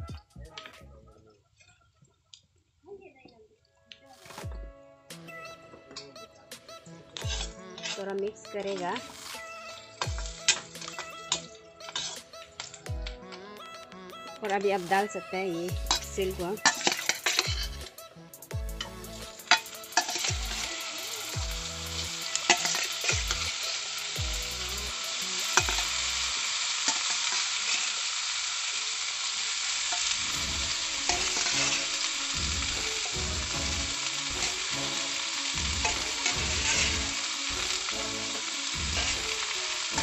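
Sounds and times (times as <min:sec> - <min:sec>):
food sizzling in hot oil: 0:06.6 - 0:13.1, 0:13.7 - 0:40.0.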